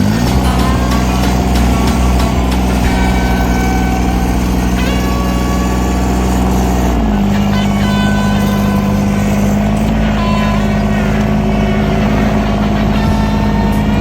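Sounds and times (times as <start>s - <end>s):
tractor engine at high revs: 0.0s - 14.0s.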